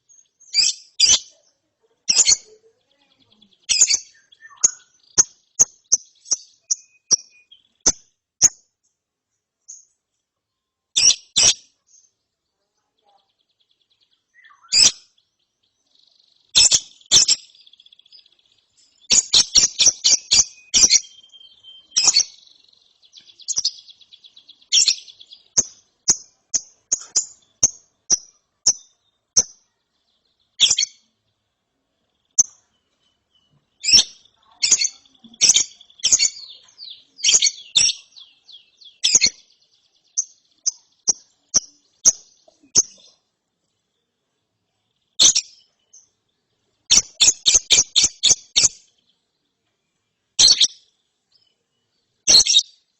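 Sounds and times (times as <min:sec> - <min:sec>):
lovebird chirping: 0:00.0 - 0:52.9.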